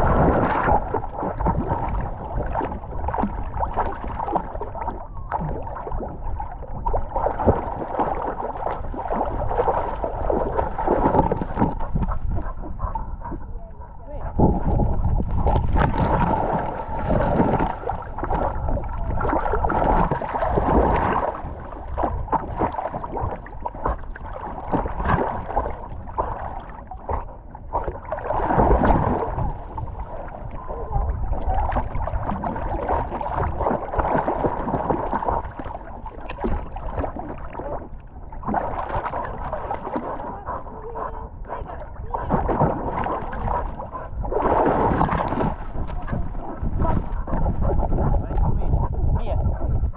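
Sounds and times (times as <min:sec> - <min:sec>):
water sloshing and splashing: 0:00.0 - 0:49.9.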